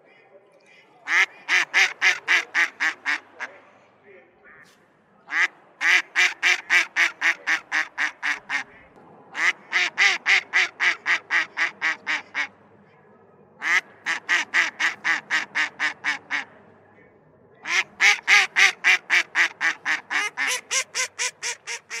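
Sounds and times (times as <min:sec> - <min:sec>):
duck quacking: 0:01.1 - 0:03.7, 0:04.6 - 0:12.5, 0:13.6 - 0:16.6, 0:17.6 - 0:22.0.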